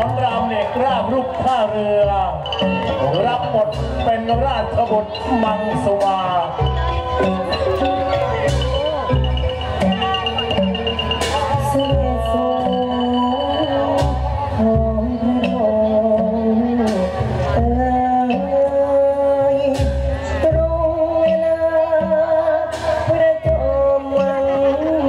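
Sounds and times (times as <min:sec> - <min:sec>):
low drum beat: 0:00.0 - 0:13.3, 0:13.9 - 0:24.4
melody line: 0:00.0 - 0:25.0.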